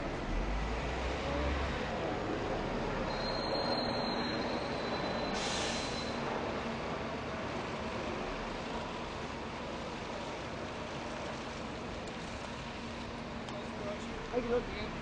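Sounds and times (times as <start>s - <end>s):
street noise rumble and hiss: 0.0s - 15.0s.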